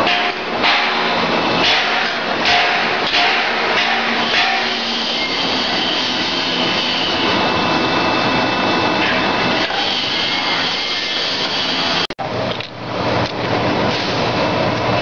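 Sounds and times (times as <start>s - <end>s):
welding machine hissing: 0.0s - 12.1s.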